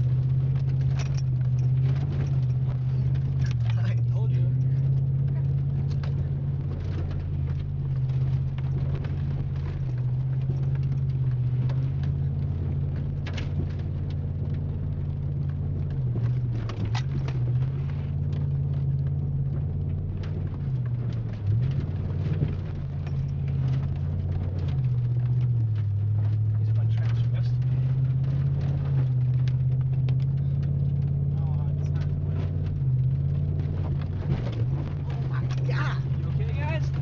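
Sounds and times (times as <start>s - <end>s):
truck engine droning: 0.0s - 37.0s.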